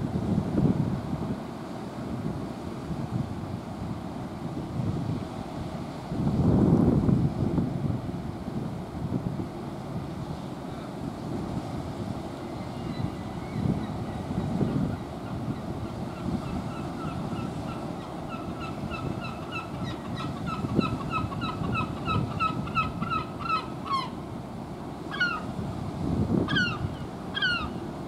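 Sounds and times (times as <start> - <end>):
wind noise: 0.0 - 24.1, 25.0 - 28.0.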